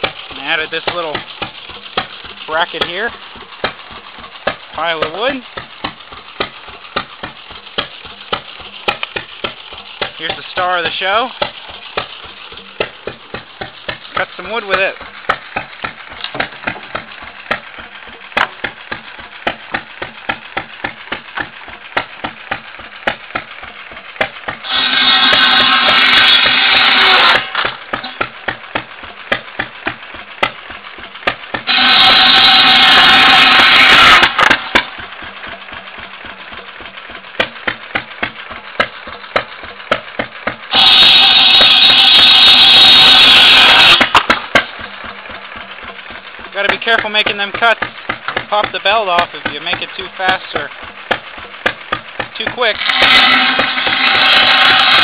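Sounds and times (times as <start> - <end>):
buzzsaw rasping through wood: 0.0 - 36.2, 37.4 - 44.9, 45.8 - 55.0
gas engine exhaust pops: 0.0 - 55.0.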